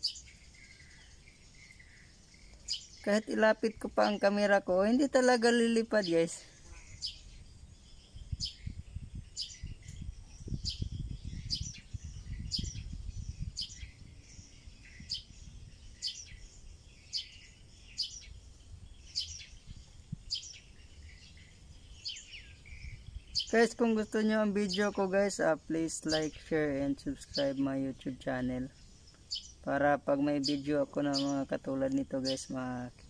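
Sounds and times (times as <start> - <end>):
bird chirping: 0.0 - 33.0.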